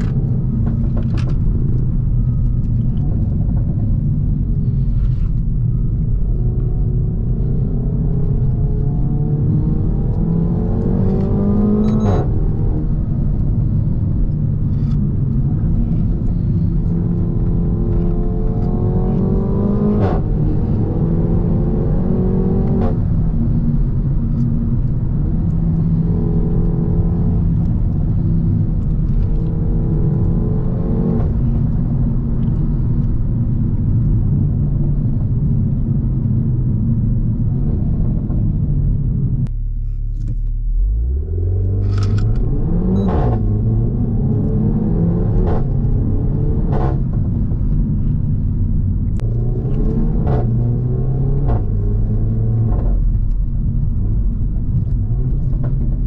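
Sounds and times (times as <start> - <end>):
car engine revving through gears: 4.6 - 35.4, 39.8 - 48.4, 49.0 - 56.0.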